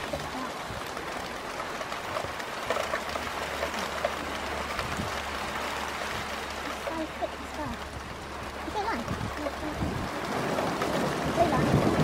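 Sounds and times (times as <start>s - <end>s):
low steady rumble: 0.0s - 12.0s
rain falling: 0.0s - 12.0s.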